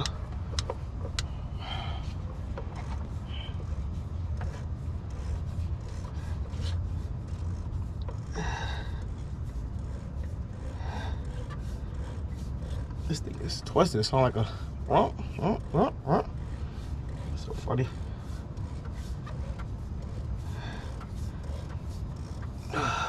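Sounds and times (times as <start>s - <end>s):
rubbing and scraping: 0.0s - 23.0s.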